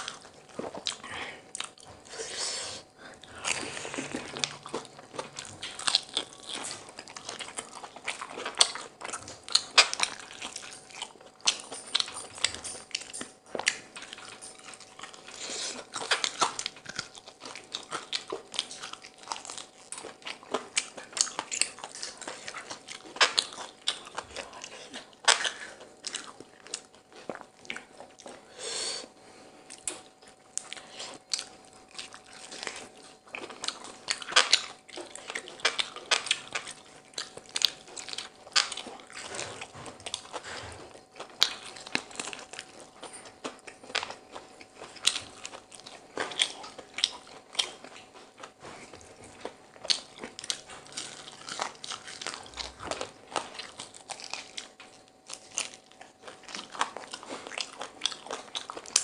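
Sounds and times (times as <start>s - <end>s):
chewing and biting with crunches: 0.0s - 2.2s, 2.8s - 59.0s.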